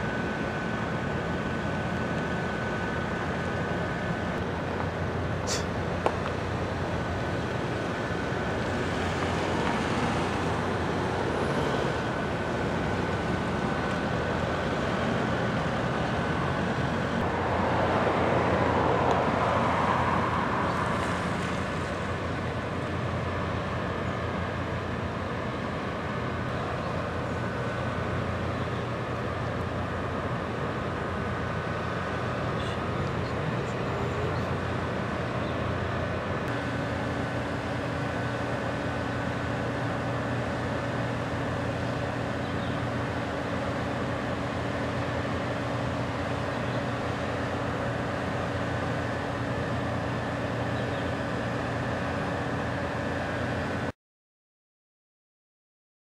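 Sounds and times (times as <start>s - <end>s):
ship engine drone: 0.0s - 53.9s
outdoor noise: 0.0s - 54.0s
steady higher hum: 0.0s - 54.0s.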